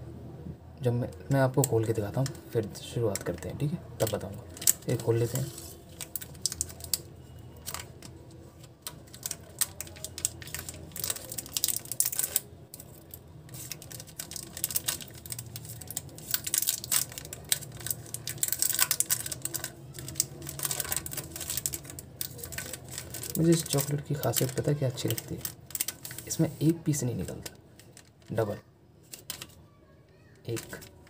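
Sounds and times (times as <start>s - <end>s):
plastic wrapper crinkling: 1.2s - 29.6s, 30.3s - 31.0s.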